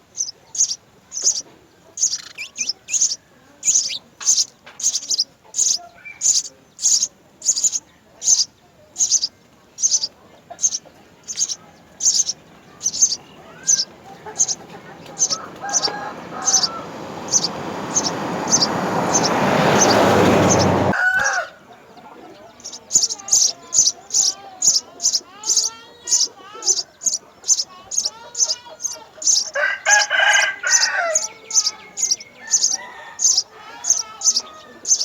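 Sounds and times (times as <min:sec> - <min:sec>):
sparrows chirping: 0:00.0 - 0:35.0.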